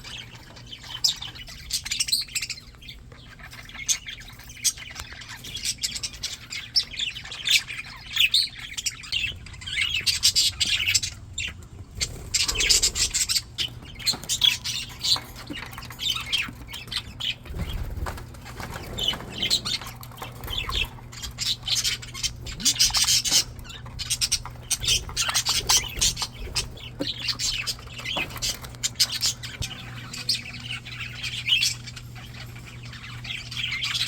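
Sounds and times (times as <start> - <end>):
budgerigars chattering: 0.0 - 34.0.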